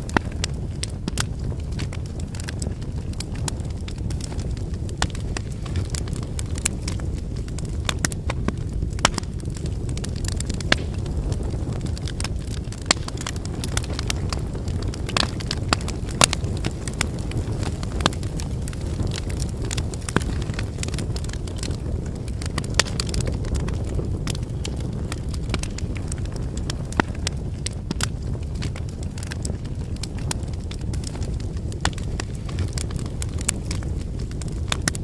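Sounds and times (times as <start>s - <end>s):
firewood crackling and popping: 0.0s - 35.0s
low rumble of flames: 0.0s - 35.0s.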